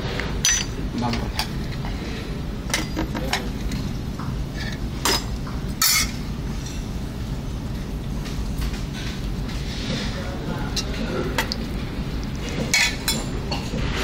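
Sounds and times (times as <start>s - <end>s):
dining room hum: 0.0s - 14.0s.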